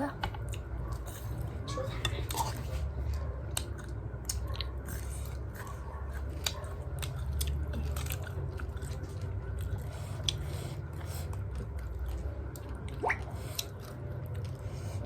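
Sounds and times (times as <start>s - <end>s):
person chewing crunchy cabbage: 2.2s - 15.0s.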